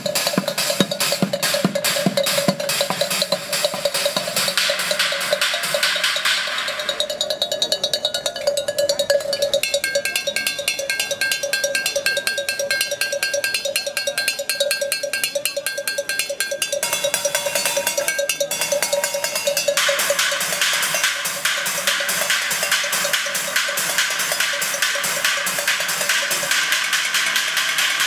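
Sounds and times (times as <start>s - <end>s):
sticks drumming on metal pots: 0.0s - 28.0s.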